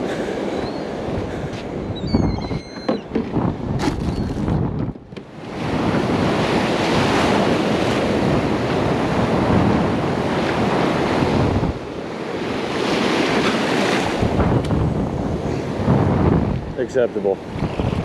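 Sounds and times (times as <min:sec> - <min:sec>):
wind buffeting microphone: 0:00.0 - 0:18.0
surf breaking on beach: 0:03.3 - 0:18.0.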